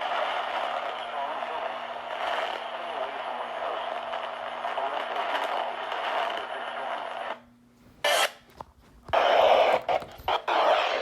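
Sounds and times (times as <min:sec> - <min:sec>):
radio static hiss: 0:00.0 - 0:07.4, 0:09.1 - 0:11.0
crackling static with clicks: 0:00.0 - 0:07.5, 0:08.1 - 0:11.0.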